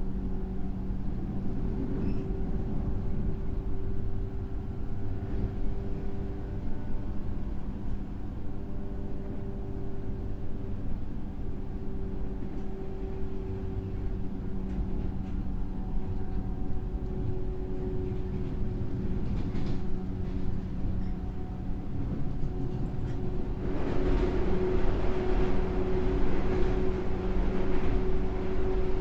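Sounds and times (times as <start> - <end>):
train low rumble: 0.0 - 29.0.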